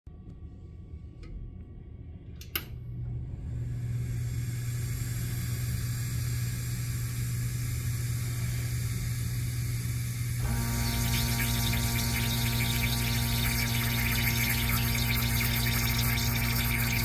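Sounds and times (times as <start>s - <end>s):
espresso machine pump humming: 3.1s - 17.0s.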